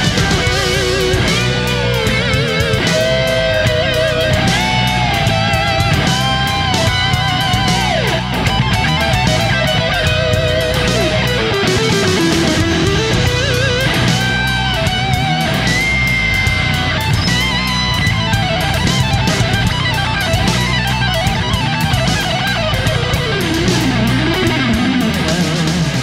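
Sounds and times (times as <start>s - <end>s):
electric guitar music over beat: 0.0s - 26.0s.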